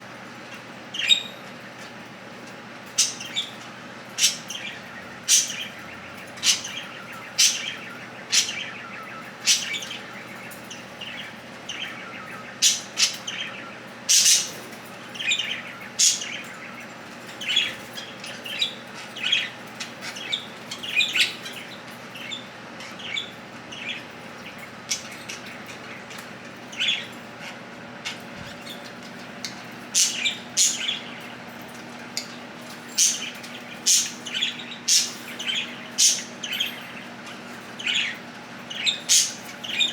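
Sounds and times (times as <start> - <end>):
faint steady hum: 0.0 - 39.9
budgerigars chirping: 0.5 - 2.0, 2.8 - 39.9.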